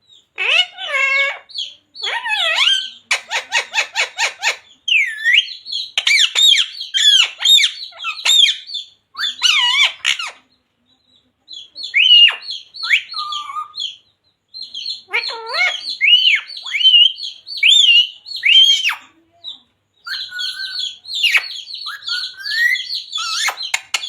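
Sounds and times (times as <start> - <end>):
parakeet squawking and chattering: 0.2 - 10.5, 11.5 - 14.0, 14.6 - 24.0.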